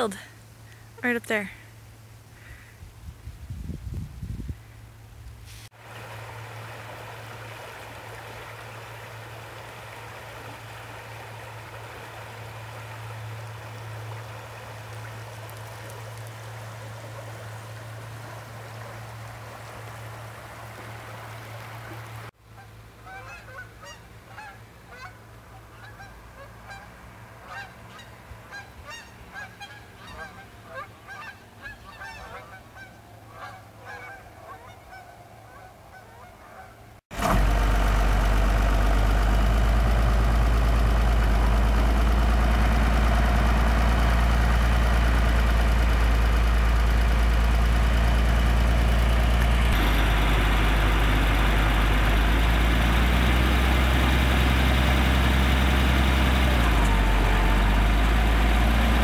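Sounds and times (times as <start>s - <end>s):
river water rippling: 0.0s - 59.0s.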